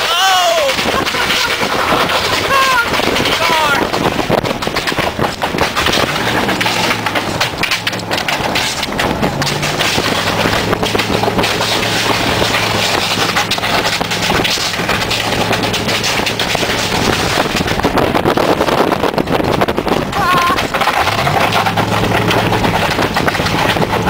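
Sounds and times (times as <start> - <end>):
metal heater dragged on road: 0.0 - 24.0
truck engine running: 0.0 - 24.0.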